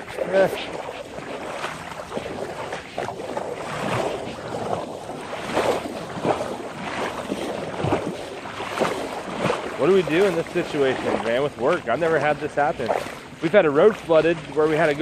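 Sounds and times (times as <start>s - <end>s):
water sloshing and splashing: 0.0s - 15.0s
wind on microphone: 0.0s - 15.0s.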